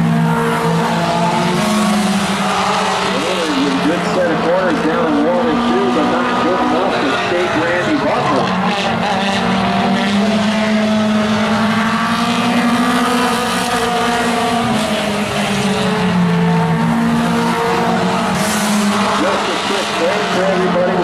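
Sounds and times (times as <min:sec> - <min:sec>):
race car engines at high revs: 0:00.0 - 0:21.0.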